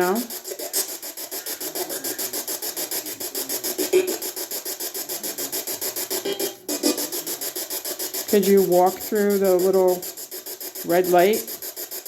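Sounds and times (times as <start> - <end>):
rhythmic rasping static: 0.0 - 12.0.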